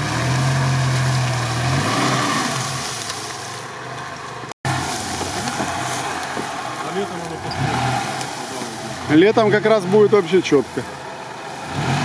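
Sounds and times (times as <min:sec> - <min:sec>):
engine revving hard under load: 0:00.0 - 0:03.0, 0:04.7 - 0:12.0.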